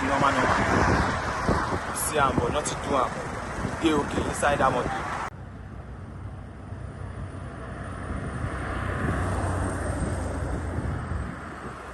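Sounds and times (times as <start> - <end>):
wind on microphone: 0.0 - 5.3, 7.2 - 11.9
road traffic: 0.0 - 11.9.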